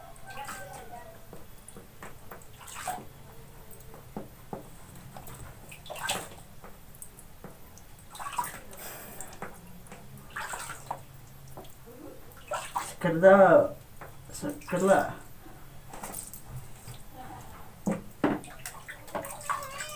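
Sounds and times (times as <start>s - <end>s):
water splashing in plastic basin: 0.2s - 15.2s, 15.9s - 17.2s, 17.8s - 19.9s.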